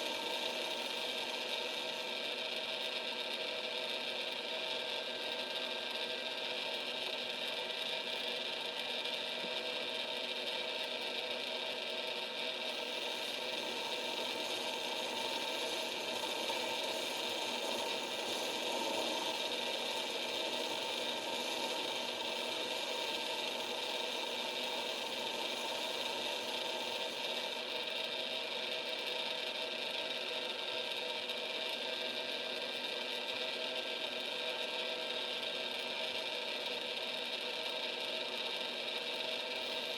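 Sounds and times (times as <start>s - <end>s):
lathe motor whine: 0.0s - 39.9s.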